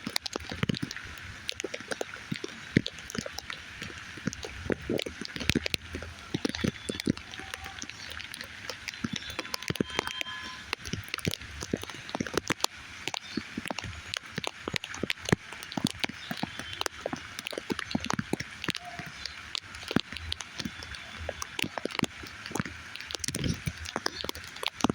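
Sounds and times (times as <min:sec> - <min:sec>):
rain falling: 0:00.0 - 0:24.9
raindrops tapping sharply: 0:00.0 - 0:24.9.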